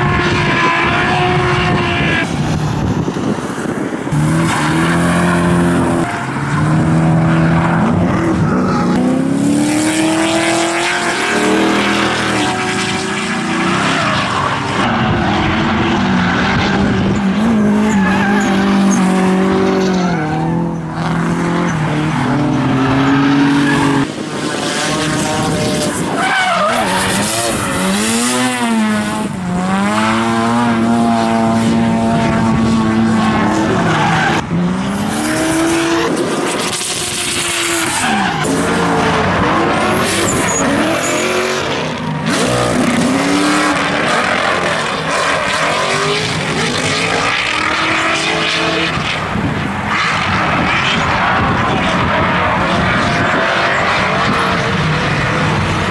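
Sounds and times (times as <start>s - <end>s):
car engines revving hard: 0.0s - 55.9s.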